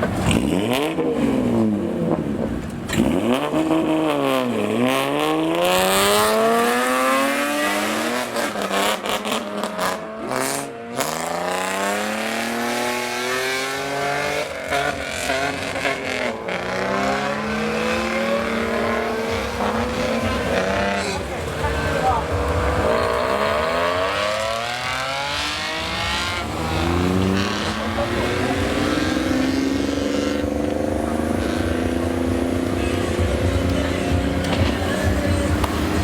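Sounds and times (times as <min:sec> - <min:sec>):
car engine revving loud exhaust: 0:00.0 - 0:36.0.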